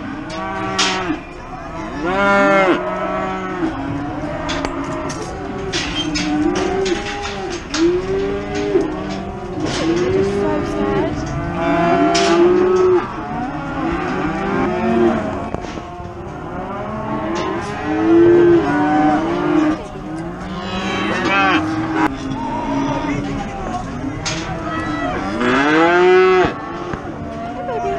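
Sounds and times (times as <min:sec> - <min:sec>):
cattle mooing: 0:00.0 - 0:23.4, 0:24.3 - 0:27.9.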